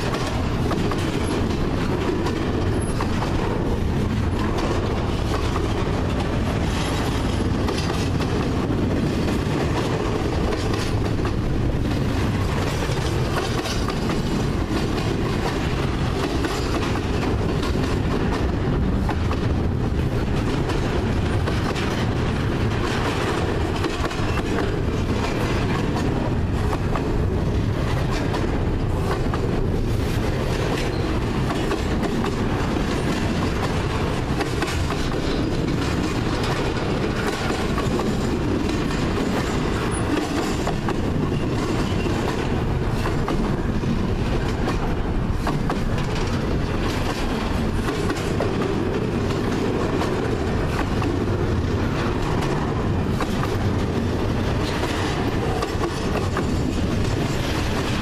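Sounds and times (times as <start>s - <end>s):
freight train wheels rumbling: 0.0s - 58.0s
wheels clacking over track: 0.0s - 58.0s.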